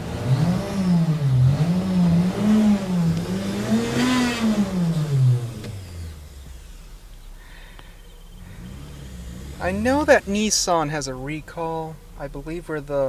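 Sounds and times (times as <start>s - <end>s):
high engine whine: 0.0s - 13.0s
truck engine revving: 0.0s - 13.0s.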